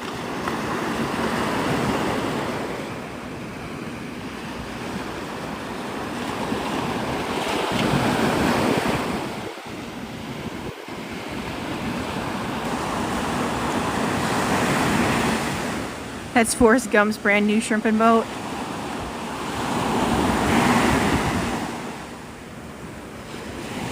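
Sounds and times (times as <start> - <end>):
wind on microphone: 0.0 - 17.0, 17.9 - 23.9
surf breaking on beach: 0.0 - 23.9.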